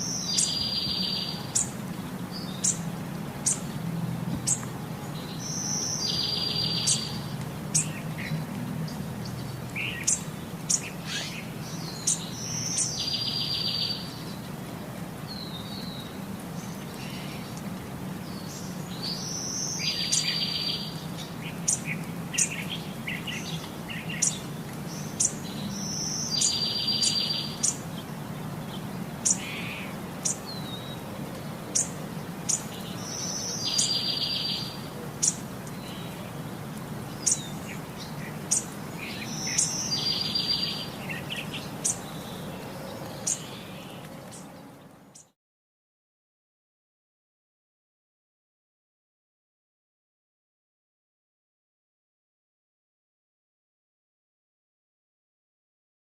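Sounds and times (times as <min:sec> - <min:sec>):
songbirds chirping: 0:00.0 - 0:45.4.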